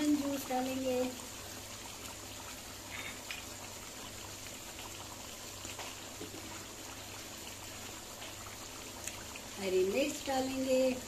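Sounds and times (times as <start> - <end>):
curry simmering and bubbling: 0.0 - 11.0.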